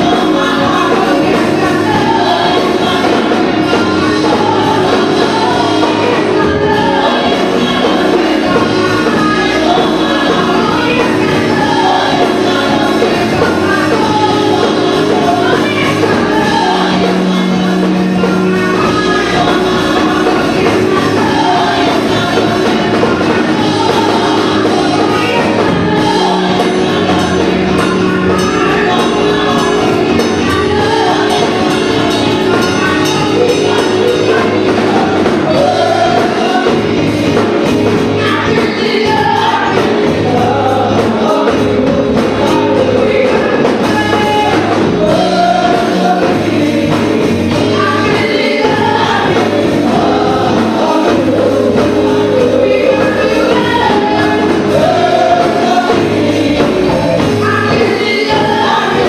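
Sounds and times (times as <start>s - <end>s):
gospel choir singing: 0.0s - 59.0s
live band with percussion: 0.0s - 59.0s.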